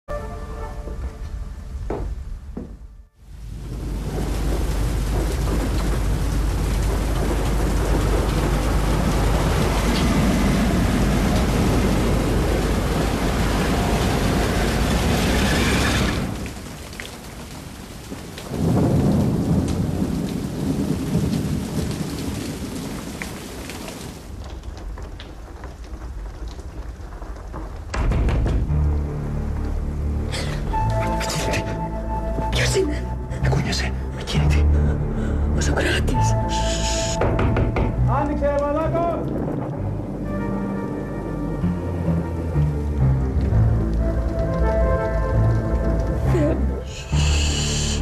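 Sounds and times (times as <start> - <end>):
heavy rain: 0.1 - 48.0
rolling thunder: 0.9 - 33.4, 37.2 - 46.8.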